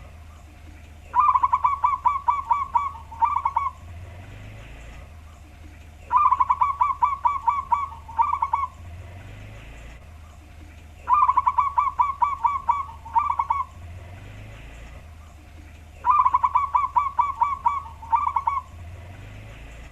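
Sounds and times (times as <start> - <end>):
dove cooing: 0.0 - 19.9
low steady hum: 0.0 - 19.9.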